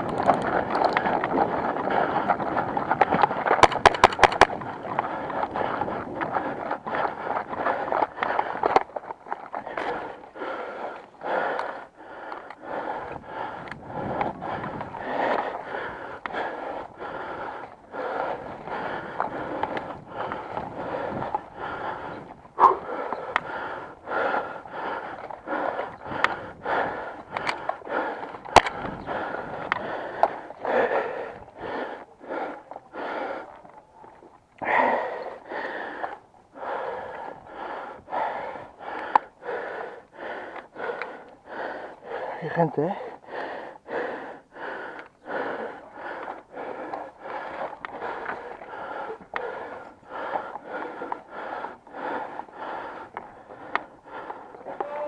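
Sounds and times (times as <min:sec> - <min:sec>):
person breathing heavily: 0:00.0 - 0:55.0.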